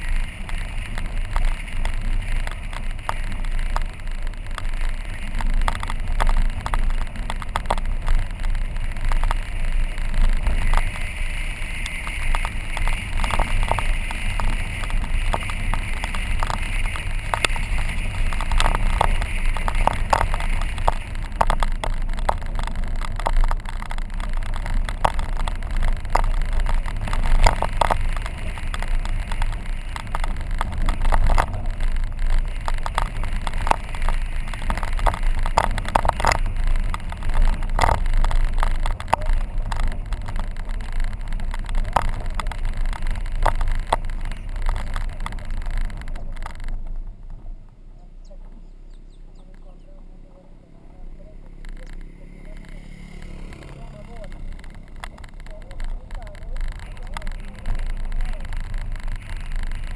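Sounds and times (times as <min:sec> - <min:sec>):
clicks and knocks from rough road: 0:00.0 - 0:59.9
engine and tyre rumble: 0:00.0 - 0:59.9.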